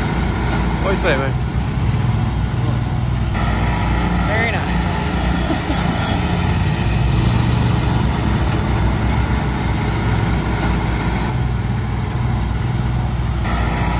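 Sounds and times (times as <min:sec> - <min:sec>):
vehicle engine rumbling: 0:00.0 - 0:13.9.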